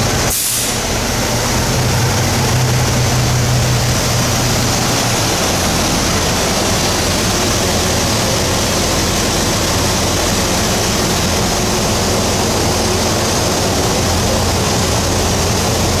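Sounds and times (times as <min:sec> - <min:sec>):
car engine idling: 0:00.0 - 0:16.0
loud constant rushing noise: 0:00.0 - 0:16.0.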